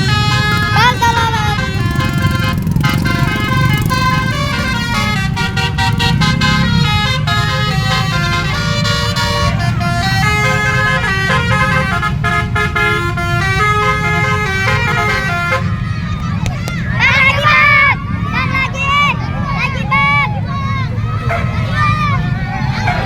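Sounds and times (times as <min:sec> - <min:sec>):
bus engine rumble: 0:00.0 - 0:23.0
musical bus horn: 0:00.0 - 0:23.0.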